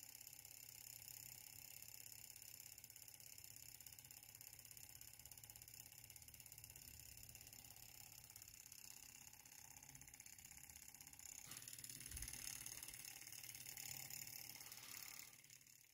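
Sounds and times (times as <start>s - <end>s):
small engine mechanical ticking: 0.0s - 15.9s.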